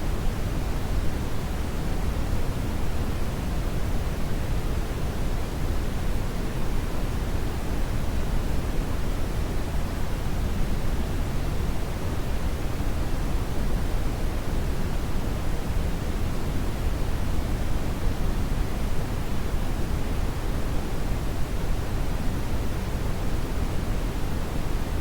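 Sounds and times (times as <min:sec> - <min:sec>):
brown noise hiss: 0:00.0 - 0:25.0.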